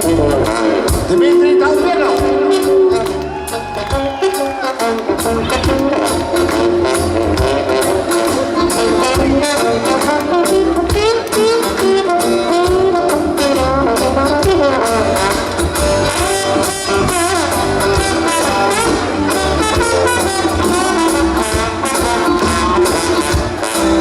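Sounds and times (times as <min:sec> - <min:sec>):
live band music: 0:00.0 - 0:24.0
trombone solo: 0:00.0 - 0:24.0.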